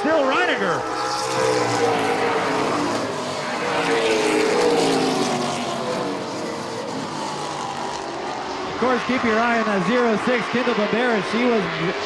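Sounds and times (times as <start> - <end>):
race cars passing at speed: 0.0 - 12.0.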